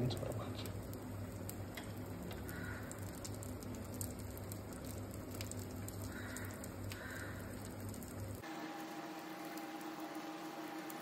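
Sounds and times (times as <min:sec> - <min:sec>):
eggplant sizzling in hot oil: 0:00.0 - 0:11.0
low steady hum: 0:00.0 - 0:11.0.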